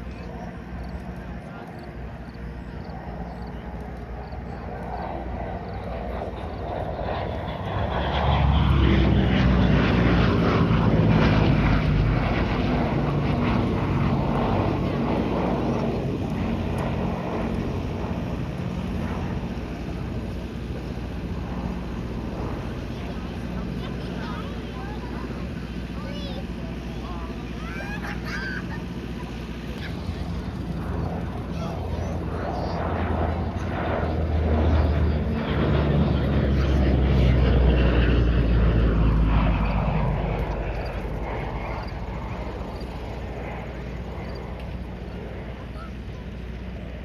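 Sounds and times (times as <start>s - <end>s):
propeller plane engines droning: 0.0s - 47.0s.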